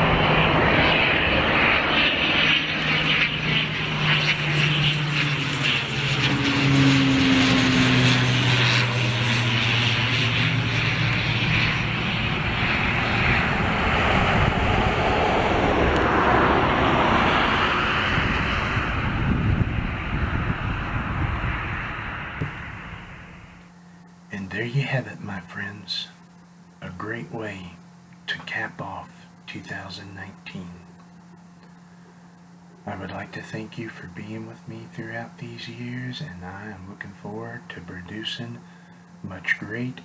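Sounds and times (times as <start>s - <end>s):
military aircraft engine drone: 0.0s - 40.0s.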